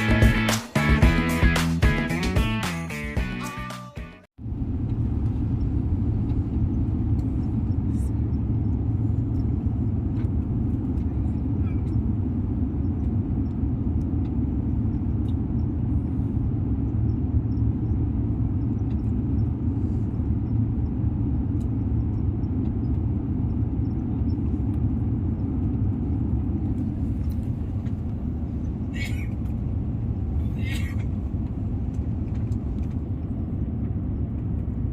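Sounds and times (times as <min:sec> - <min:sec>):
airliner cabin engine rumble: 0:04.2 - 0:34.9.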